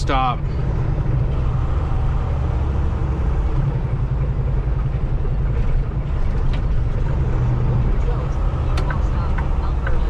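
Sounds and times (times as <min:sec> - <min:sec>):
diesel truck engine drone: 0:00.0 - 0:10.0
road noise: 0:00.0 - 0:10.0.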